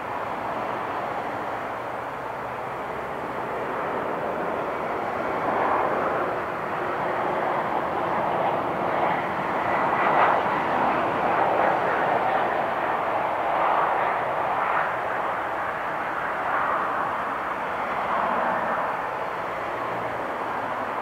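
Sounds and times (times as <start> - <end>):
airliner engine rushing: 0.0 - 21.0.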